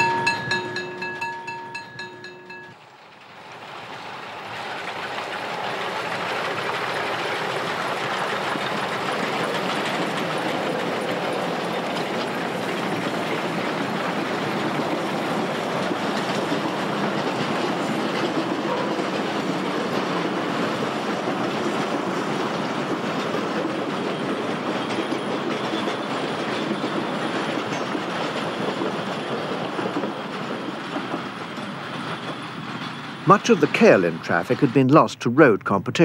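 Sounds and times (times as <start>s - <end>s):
wagons rattling on rails: 0.0s - 35.5s
steam locomotive: 0.0s - 36.0s.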